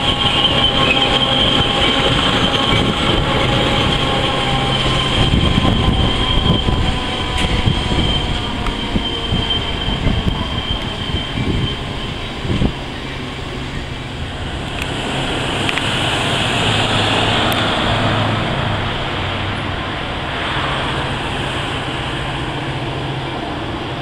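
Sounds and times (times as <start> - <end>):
high-pitched wheel whine: 0.0 - 24.0
train rolling past on rails: 0.0 - 24.0.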